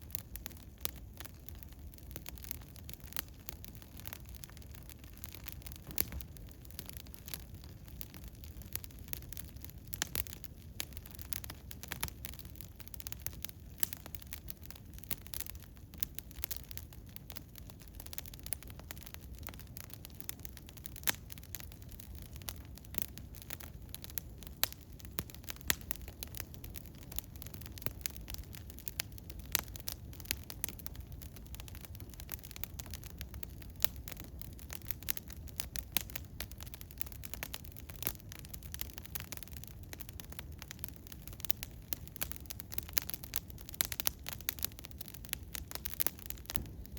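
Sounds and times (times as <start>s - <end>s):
wood fire crackling and popping: 0.0s - 46.9s.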